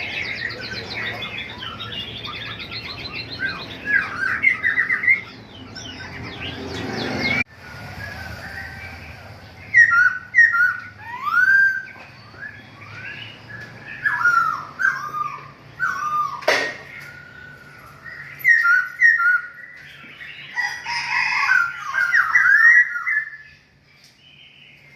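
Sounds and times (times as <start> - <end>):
caged birds chirping and whistling: 0.0 - 24.9.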